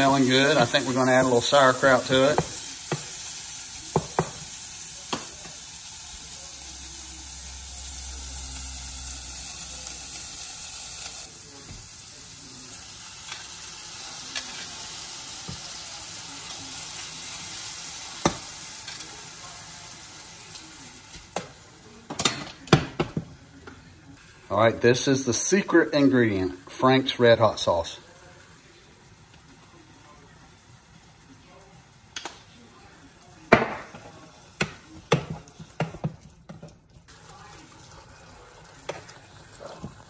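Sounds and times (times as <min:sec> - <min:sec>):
sausages sizzling in a pot: 0:00.0 - 0:40.0.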